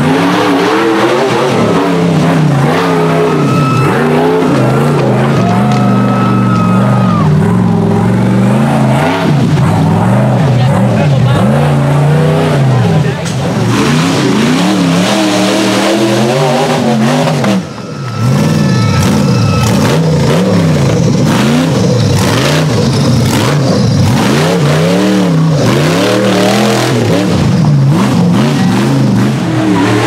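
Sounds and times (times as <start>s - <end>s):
buggy engine revving: 0.0s - 30.0s.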